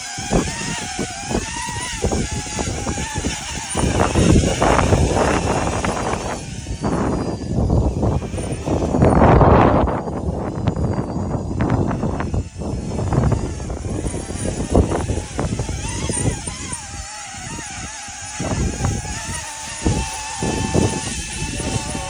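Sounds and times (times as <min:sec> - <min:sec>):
drone propellers whining: 0:00.0 - 0:22.0
wind buffeting microphone: 0:00.0 - 0:22.0.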